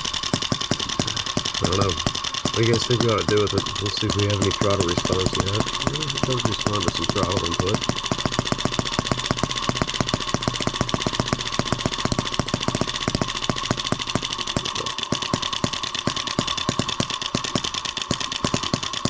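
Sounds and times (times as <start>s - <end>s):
small model engine running: 0.0s - 19.0s.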